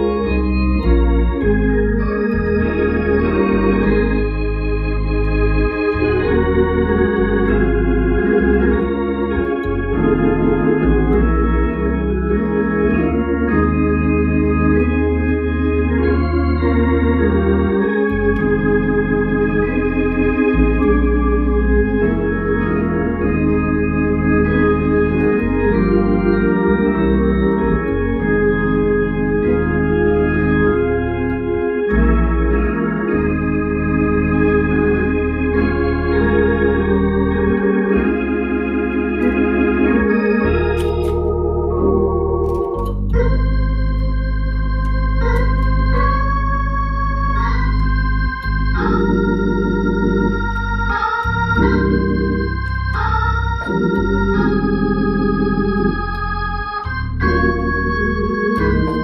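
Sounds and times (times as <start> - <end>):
organ playing gospel chords: 0.0 - 59.0.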